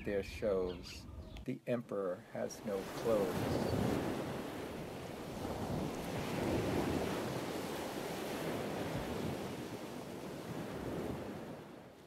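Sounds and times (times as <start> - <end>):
ocean surf rushing: 2.0 - 11.9.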